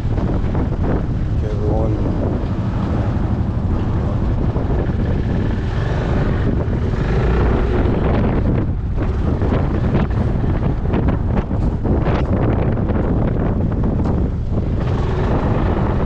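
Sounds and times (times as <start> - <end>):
wind buffeting microphone: 0.0 - 16.0
scooter engine running: 0.2 - 16.0.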